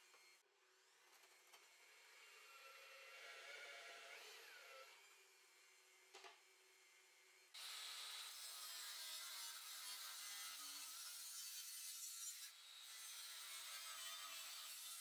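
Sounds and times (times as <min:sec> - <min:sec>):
faint workshop sounds: 0:00.0 - 0:15.0.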